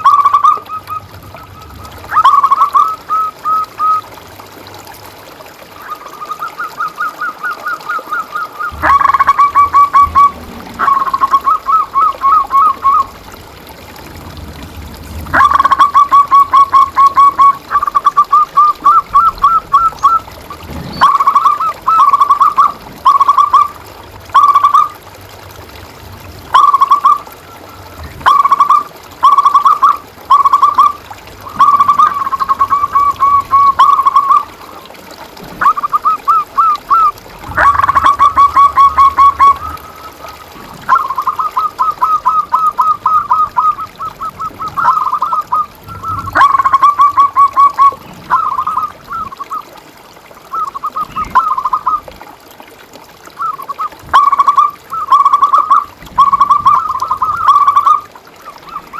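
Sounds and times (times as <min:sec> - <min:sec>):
dove cooing: 0:00.0 - 0:04.2, 0:05.8 - 0:25.0, 0:26.4 - 0:49.7, 0:50.5 - 0:52.0, 0:53.4 - 0:58.9.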